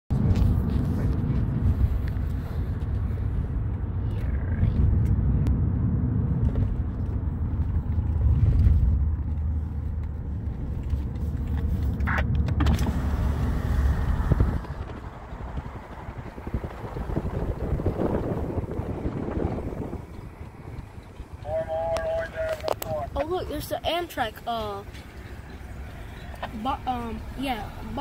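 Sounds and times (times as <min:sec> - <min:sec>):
heavy vehicle engine rumble: 0:00.1 - 0:28.0.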